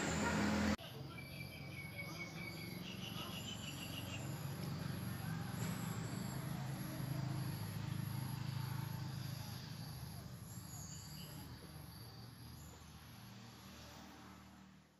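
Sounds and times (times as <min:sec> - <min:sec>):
insects chirping: 0:00.1 - 0:14.1.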